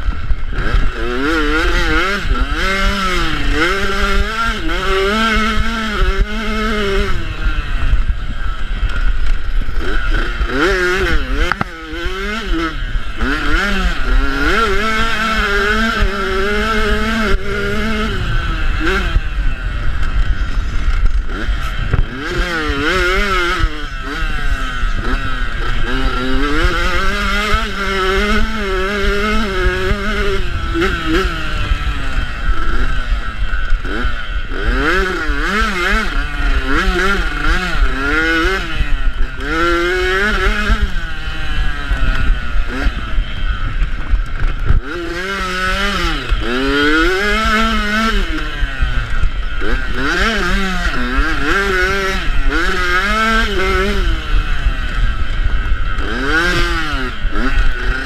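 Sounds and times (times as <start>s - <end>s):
motocross bike engine revving: 0.0s - 58.0s
wind rumble on microphone: 0.0s - 58.0s.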